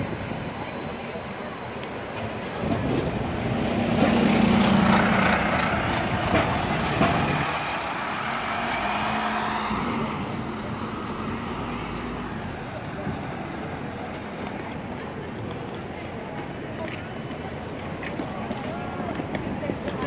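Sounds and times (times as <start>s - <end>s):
bus passing: 0.0s - 20.0s
road noise: 0.0s - 20.0s
taxi engine hum: 0.0s - 20.0s.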